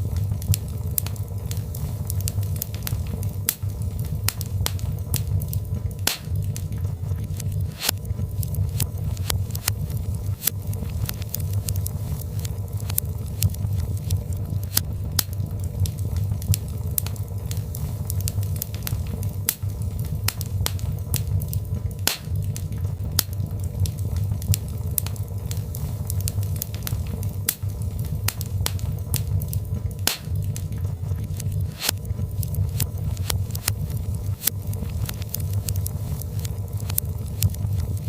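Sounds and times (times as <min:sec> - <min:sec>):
fire crackling and popping: 0:00.0 - 0:38.0
low fire rumble: 0:00.0 - 0:38.0.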